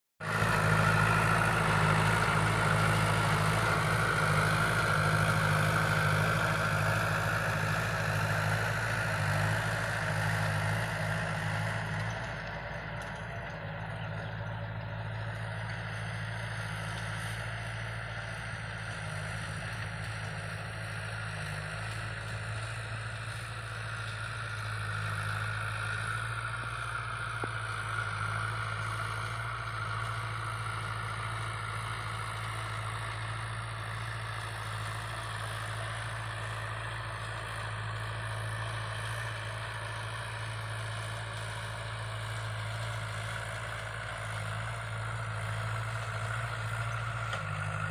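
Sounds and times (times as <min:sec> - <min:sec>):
tractor diesel engine under load: 0:00.2 - 0:47.9.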